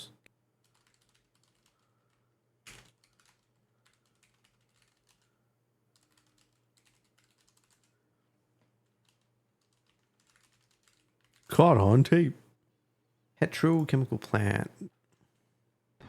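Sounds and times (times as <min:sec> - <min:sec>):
faint keyboard typing: 0:00.0 - 0:12.0, 0:13.4 - 0:15.6.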